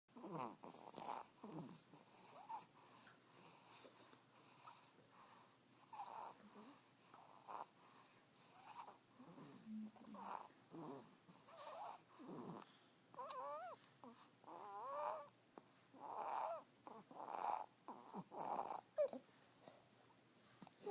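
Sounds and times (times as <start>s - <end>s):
faint wheezy snoring: 0.2s - 15.3s, 15.9s - 19.8s.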